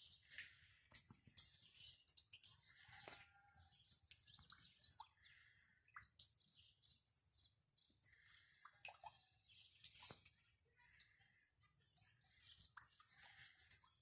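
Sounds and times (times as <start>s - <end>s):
faint birdsong chirps: 0.0s - 14.0s.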